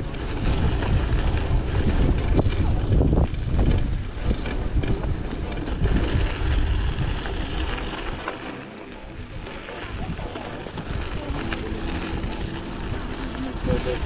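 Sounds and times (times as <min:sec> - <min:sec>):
bicycle rolling noise: 0:00.0 - 0:14.0
bike ticking: 0:00.0 - 0:14.0
wind buffeting microphone: 0:00.0 - 0:14.0.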